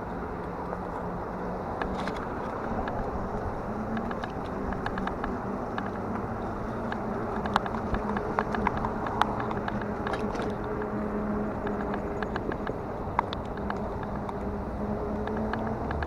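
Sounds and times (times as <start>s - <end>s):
vehicle hum: 0.0s - 16.0s
clicks and rattles: 1.7s - 16.0s.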